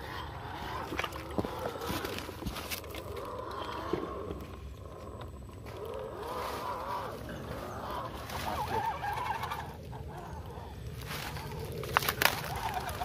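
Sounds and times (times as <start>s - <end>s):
wavering animal calls: 0.0s - 13.0s.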